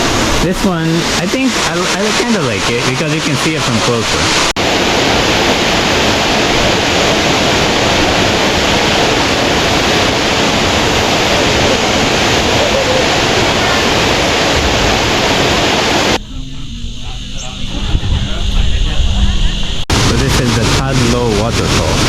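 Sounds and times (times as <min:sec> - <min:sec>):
waterfall rushing: 0:00.0 - 0:16.2, 0:19.9 - 0:22.0.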